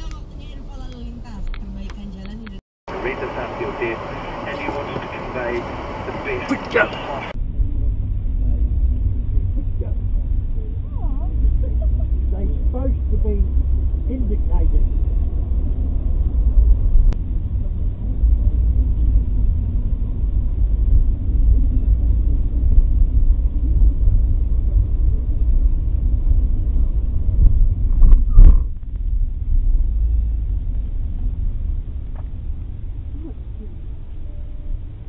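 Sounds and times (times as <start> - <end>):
car cabin road and engine rumble: 0.0 - 35.0.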